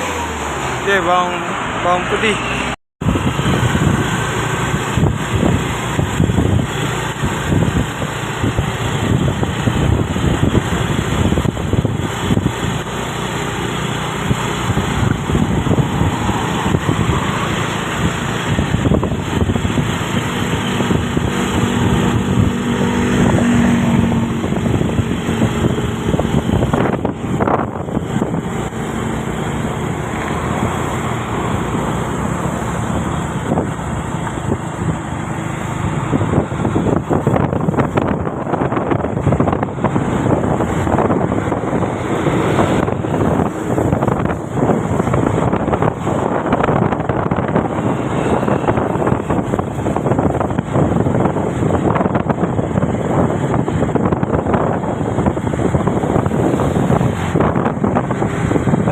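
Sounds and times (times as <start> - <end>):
road and wind noise: 0.0 - 58.9
truck engine running: 0.0 - 58.9.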